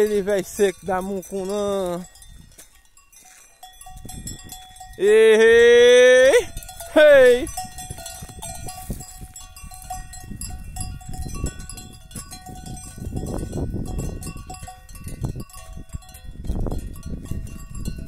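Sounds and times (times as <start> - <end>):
cowbells clanking: 0.0 - 18.0.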